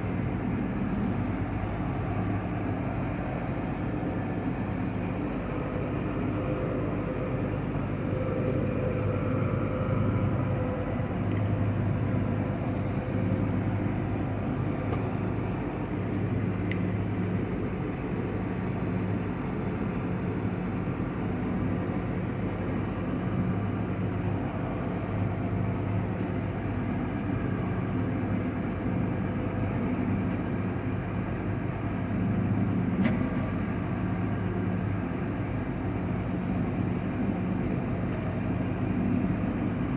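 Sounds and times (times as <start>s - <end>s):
large diesel engine droning: 0.0s - 39.9s.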